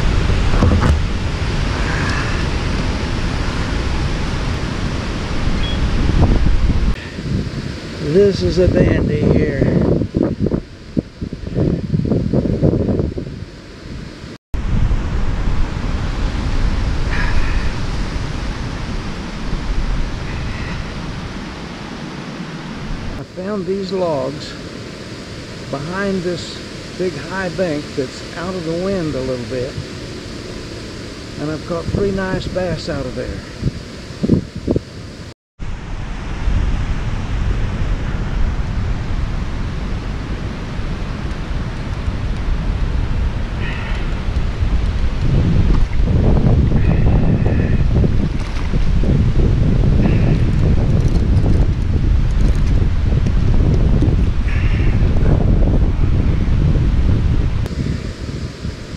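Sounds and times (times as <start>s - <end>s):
strong wind buffeting microphone: 0.0s - 58.9s.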